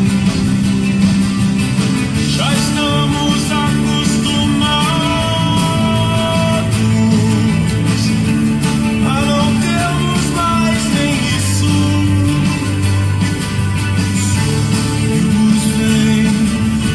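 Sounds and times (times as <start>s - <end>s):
bass line: 0.0s - 16.9s
plucked guitar: 0.0s - 16.9s
person singing: 2.1s - 16.9s.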